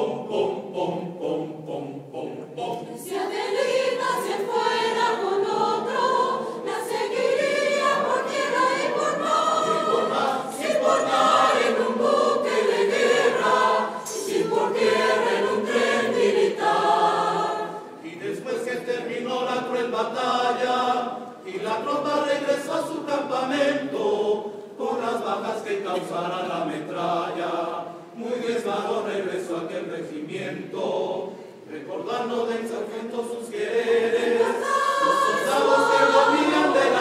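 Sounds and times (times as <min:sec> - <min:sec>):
choir singing: 0:00.0 - 0:37.0.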